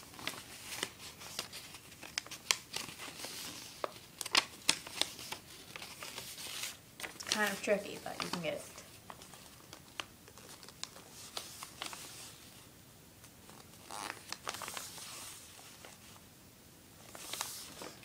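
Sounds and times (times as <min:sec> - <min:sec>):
paper crinkling and clicking: 0:00.0 - 0:12.3, 0:13.4 - 0:16.0, 0:17.1 - 0:18.0
paper rustle: 0:00.0 - 0:12.7, 0:13.4 - 0:16.2, 0:17.0 - 0:18.0.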